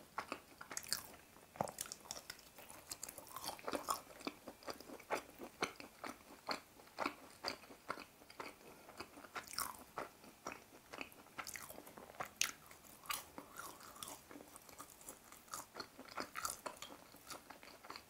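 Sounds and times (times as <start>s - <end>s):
chewing crispy fried food: 0.0s - 18.0s.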